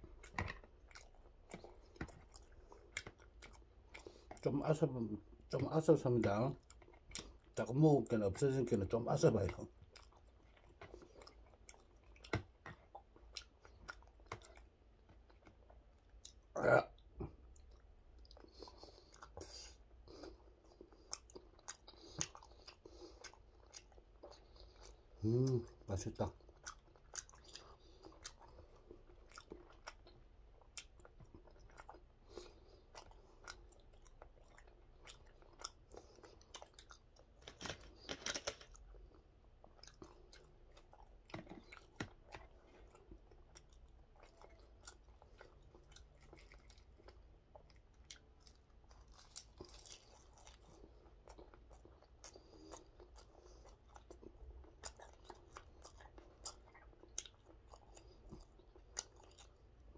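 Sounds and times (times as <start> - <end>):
chewing and crunching: 0.0 - 59.9.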